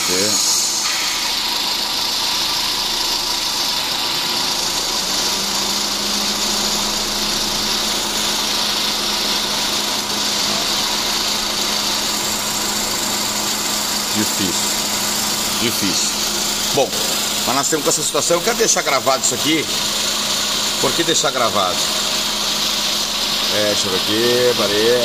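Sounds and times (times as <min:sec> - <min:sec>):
low machine hum: 0:00.0 - 0:25.0
machine hissing: 0:00.0 - 0:25.0.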